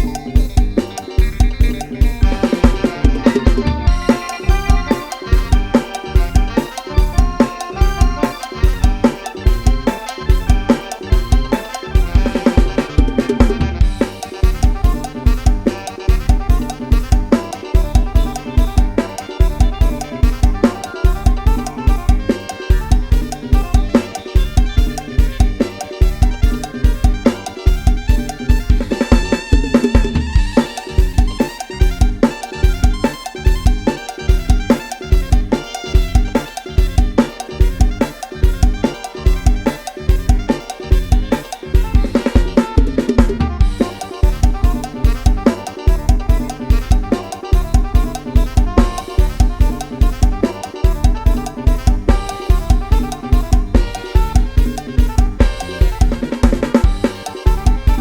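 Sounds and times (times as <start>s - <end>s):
electric bass: 0.0s - 58.0s
programmed drum kit beat: 0.0s - 58.0s
run of higher notes: 0.0s - 58.0s.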